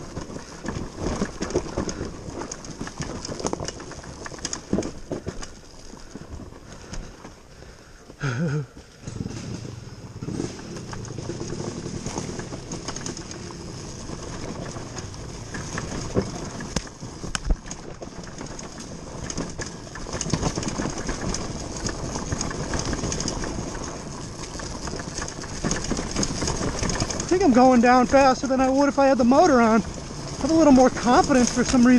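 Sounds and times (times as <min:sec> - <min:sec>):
chain and suspension rattling: 0:00.0 - 0:07.0, 0:08.9 - 0:31.9
tyres crunching over dirt and rocks: 0:00.0 - 0:31.9.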